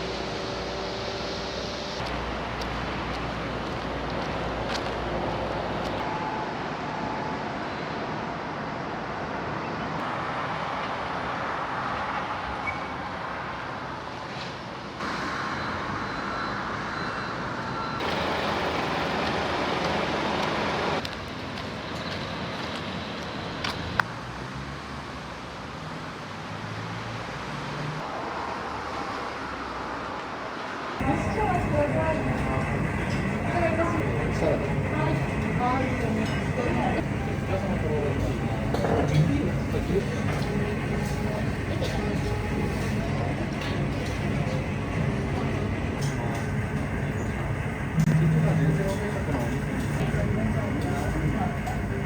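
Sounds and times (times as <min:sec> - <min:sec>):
traffic-like rumble and hiss: 0:00.0 - 0:52.0.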